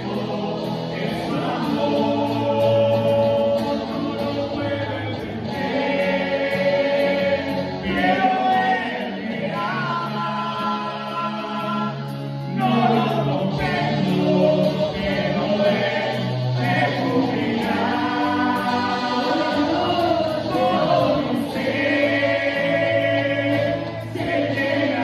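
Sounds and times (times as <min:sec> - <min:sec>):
acoustic and electric guitar: 0:00.0 - 0:25.0
men singing together: 0:00.0 - 0:25.0.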